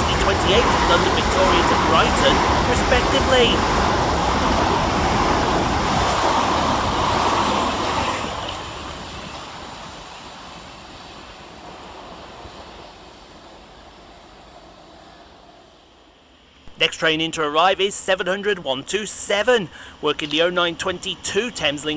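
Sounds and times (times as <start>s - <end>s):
trains passing: 0.0s - 21.9s.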